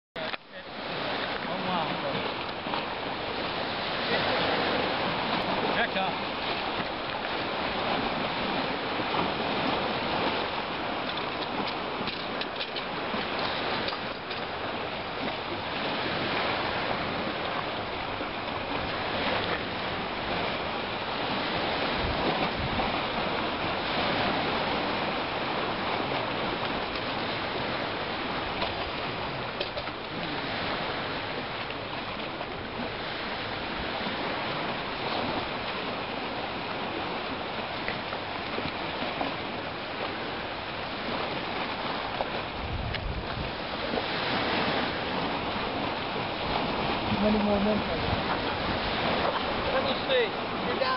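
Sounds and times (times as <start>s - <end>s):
choppy water washing against pier: 0.2s - 50.9s.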